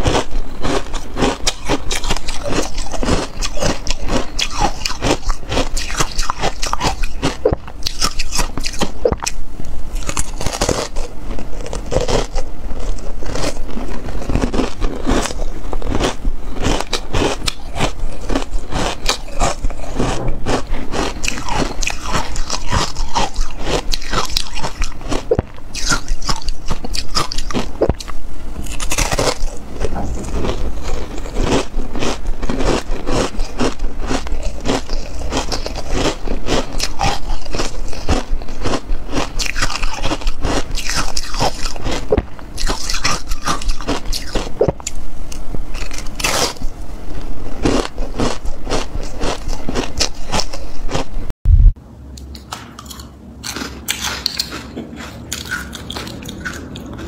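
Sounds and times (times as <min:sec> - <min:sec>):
ice crunching as chewed: 0:00.0 - 0:09.4, 0:10.0 - 0:51.1, 0:52.8 - 0:57.0.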